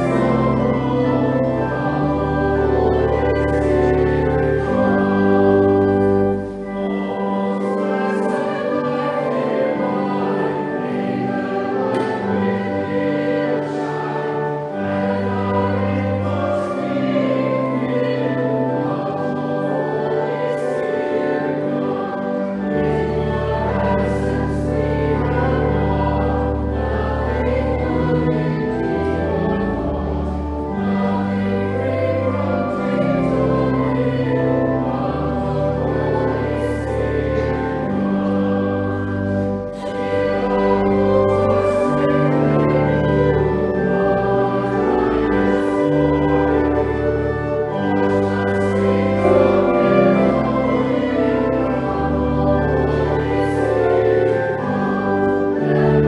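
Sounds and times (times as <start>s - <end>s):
choir singing a hymn: 0.0s - 56.0s
organ chords: 0.0s - 56.0s.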